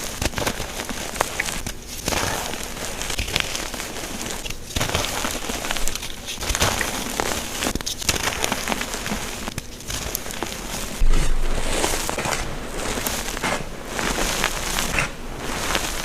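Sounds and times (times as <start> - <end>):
chalk blocks being crushed: 0.0 - 16.0.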